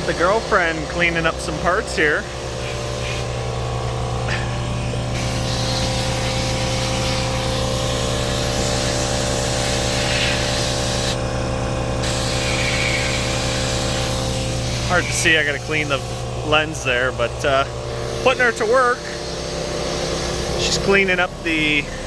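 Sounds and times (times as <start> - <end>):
motor humming: 0.0 - 22.0
spray hissing: 0.0 - 22.0.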